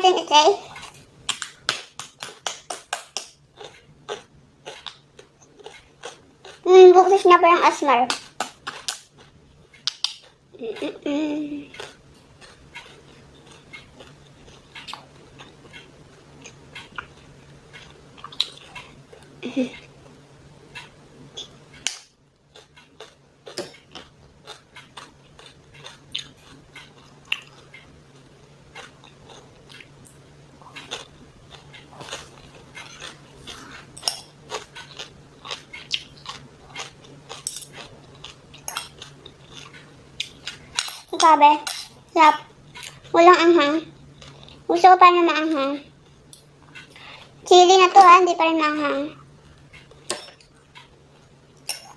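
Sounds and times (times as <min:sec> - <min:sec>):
faint low hum: 0:00.0 - 0:51.9
person chewing food: 0:00.6 - 0:06.7, 0:08.2 - 0:43.2, 0:43.9 - 0:44.7, 0:49.2 - 0:51.9.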